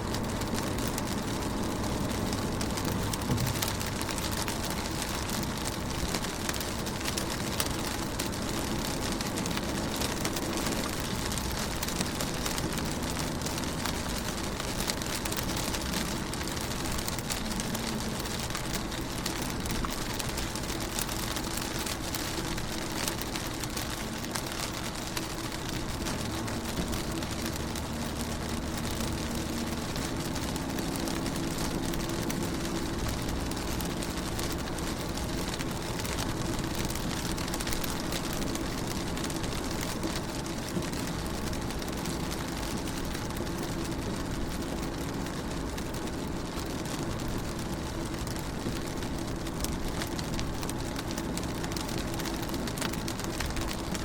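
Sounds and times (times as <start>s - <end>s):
rain on car window: 0.0s - 54.0s.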